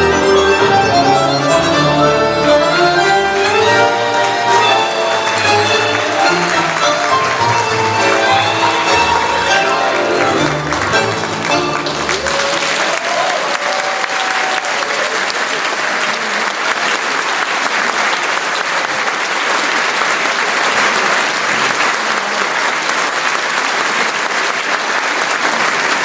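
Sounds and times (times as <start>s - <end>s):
audience applauding: 2.6s - 26.0s.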